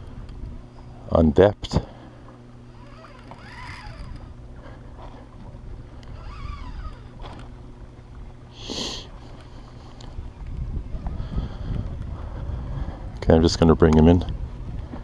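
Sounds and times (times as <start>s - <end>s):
outboard motor idling: 0.0s - 13.3s.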